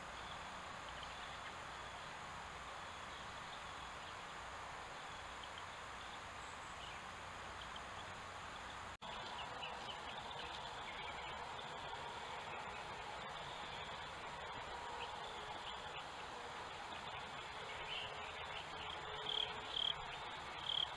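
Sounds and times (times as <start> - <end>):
background hiss: 0.0 - 20.9.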